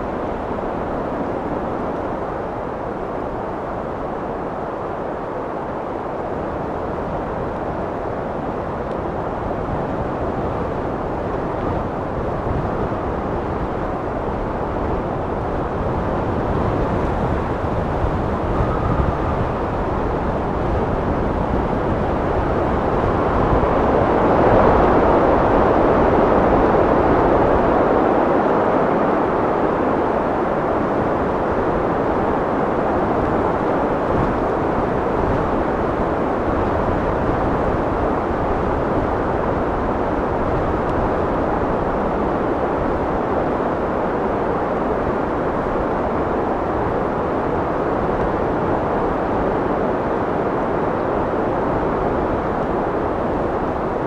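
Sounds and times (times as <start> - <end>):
wind blowing: 0.0 - 54.0.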